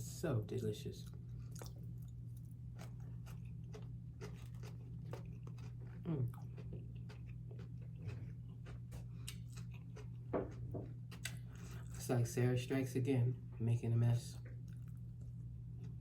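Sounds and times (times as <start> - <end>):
chewing fried fish: 1.0 - 12.3, 14.4 - 16.0.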